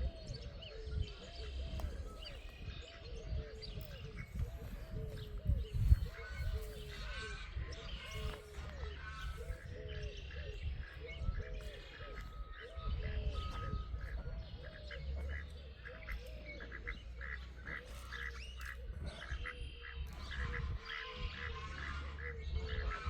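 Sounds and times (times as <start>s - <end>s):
poultry calling: 0.0s - 23.0s.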